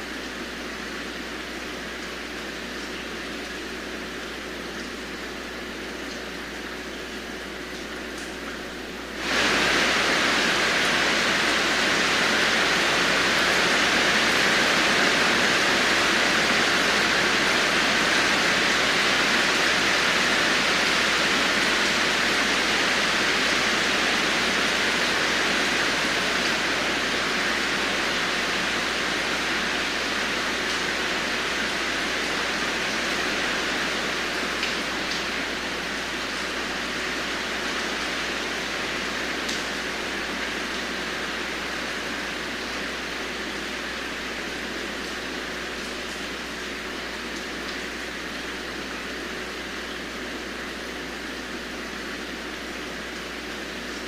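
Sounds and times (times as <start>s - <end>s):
heavy rain hissing: 8.8s - 54.0s.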